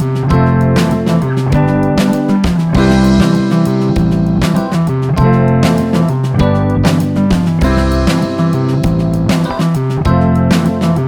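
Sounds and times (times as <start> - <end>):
bass line: 0.0 - 11.0
plucked guitar: 0.0 - 11.0
steady beat: 0.0 - 11.0.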